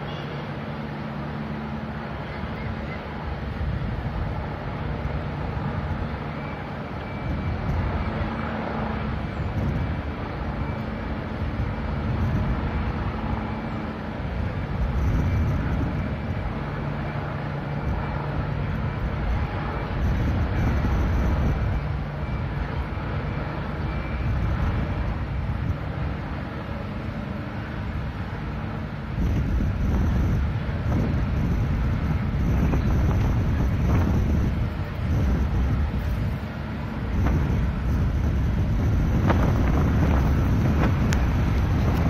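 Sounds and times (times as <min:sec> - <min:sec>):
faint engine hums: 0:00.0 - 0:42.0
low rumble of street noise: 0:00.0 - 0:42.0.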